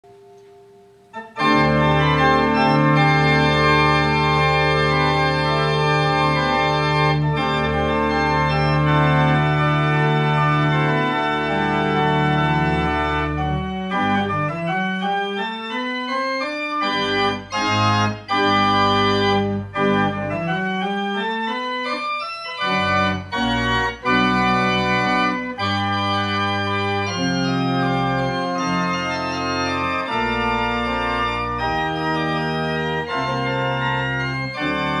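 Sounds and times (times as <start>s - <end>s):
church organ chords: 0.1s - 35.0s.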